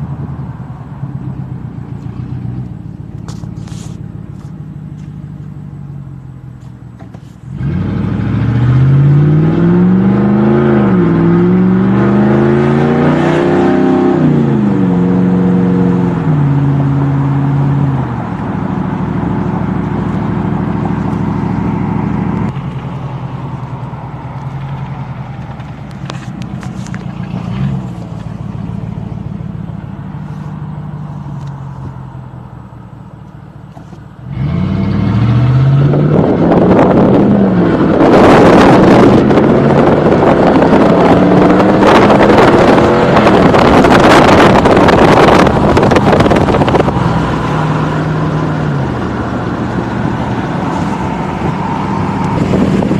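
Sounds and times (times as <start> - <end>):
loud open exhaust engine driving: 0.0 - 52.9.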